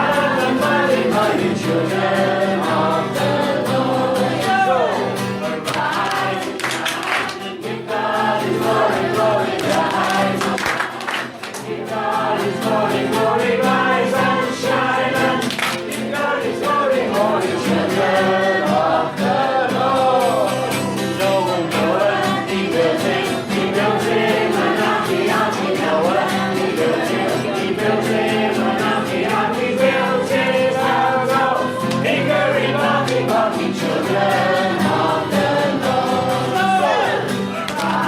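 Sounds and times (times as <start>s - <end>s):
group of voices singing: 0.0s - 38.0s.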